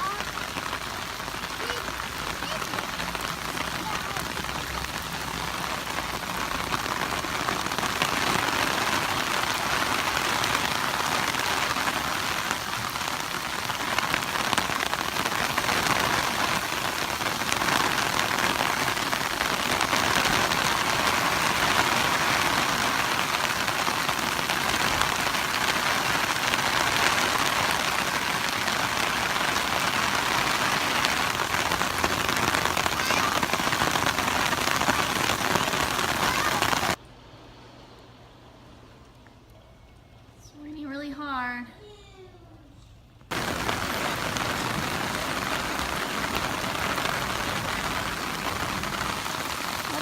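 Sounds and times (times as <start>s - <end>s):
heavy rain pouring: 0.0s - 37.0s, 43.3s - 50.0s.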